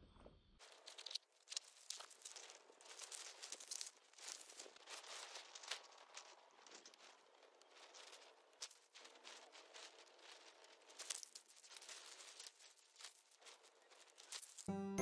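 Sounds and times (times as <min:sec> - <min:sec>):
footsteps crunching on gravel: 0:00.6 - 0:14.7
tent fabric rustling and crinkling: 0:00.6 - 0:14.7.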